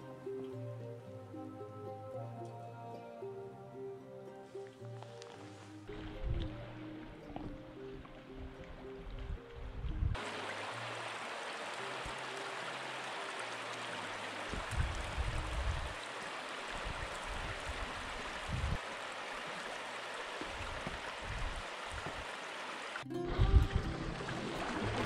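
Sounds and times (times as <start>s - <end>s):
water running over rocks: 4.7s - 25.0s.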